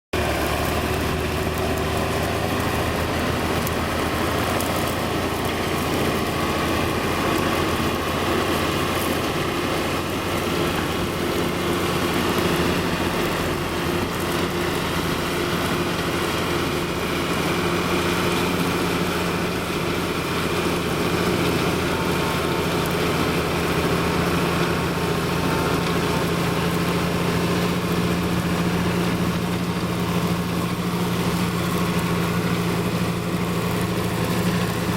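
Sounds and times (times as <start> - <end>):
tractor engine under load: 0.1 - 34.9.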